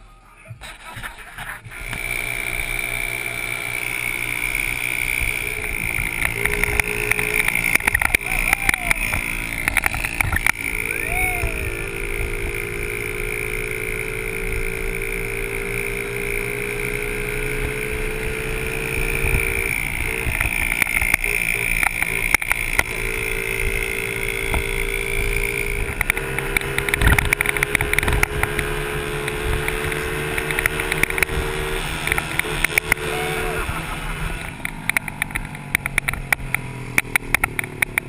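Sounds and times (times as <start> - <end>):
minibike engine running: 0.2 - 38.0
rattles and knocks over rough trail: 0.5 - 33.1, 33.8 - 38.0.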